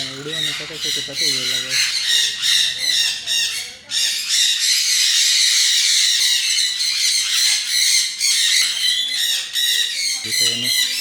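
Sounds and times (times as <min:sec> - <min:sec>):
parrots squawking and chattering: 0:00.0 - 0:11.0.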